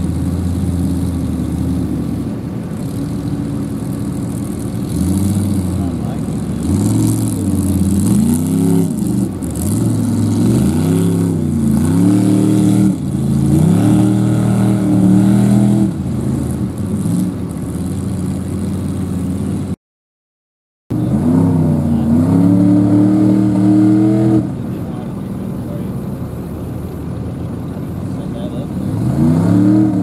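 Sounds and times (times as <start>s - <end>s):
truck engine revving: 0.0s - 19.8s, 20.9s - 30.0s.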